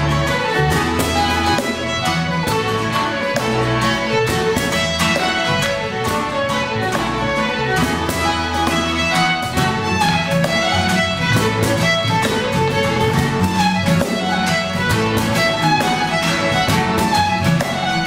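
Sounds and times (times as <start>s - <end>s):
acoustic guitars strumming: 0.0s - 18.0s
electric bass guitar: 0.0s - 18.0s.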